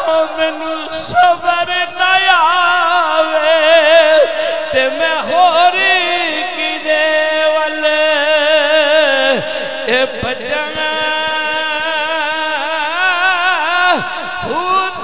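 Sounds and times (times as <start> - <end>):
person chanting: 0.0 - 15.0.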